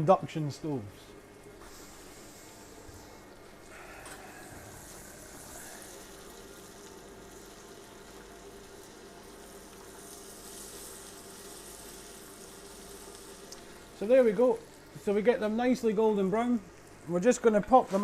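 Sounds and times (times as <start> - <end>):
faint steady hum: 0.0 - 17.9
vegetables sizzling in a pan: 1.2 - 17.1.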